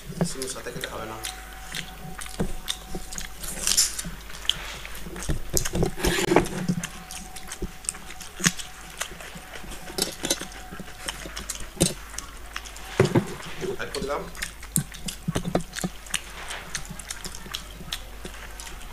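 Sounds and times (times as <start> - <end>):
chewing and mouth sounds: 0.0 - 18.9.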